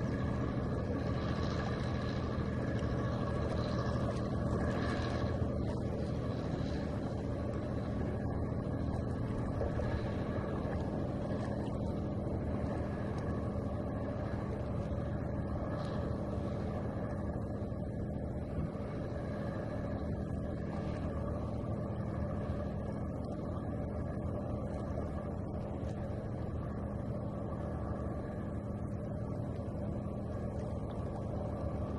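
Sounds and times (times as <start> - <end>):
constant hum: 0.0 - 31.9
low mechanical drone: 0.0 - 31.9.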